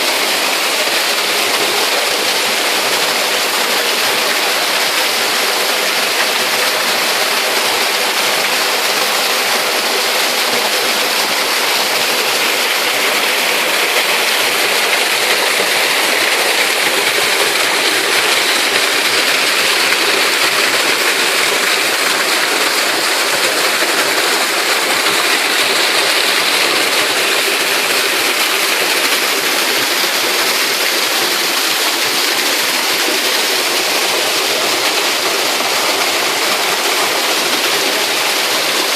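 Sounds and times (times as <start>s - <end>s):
waterfall roaring and splashing: 0.0s - 38.9s.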